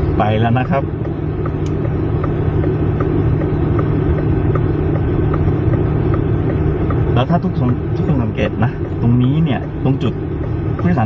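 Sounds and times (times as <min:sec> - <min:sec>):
car cabin road rumble: 0:00.0 - 0:11.0
faint even ticking: 0:00.2 - 0:11.0.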